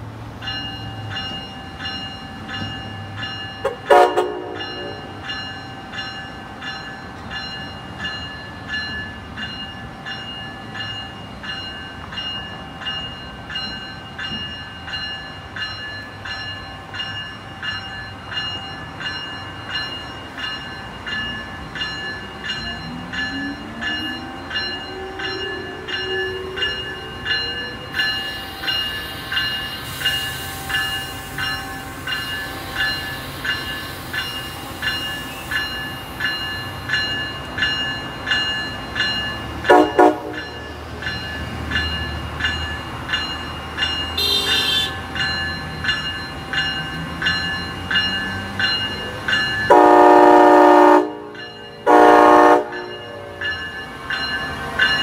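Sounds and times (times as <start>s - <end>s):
locomotive bell ringing: 0.0s - 55.0s
low locomotive whine: 0.0s - 55.0s.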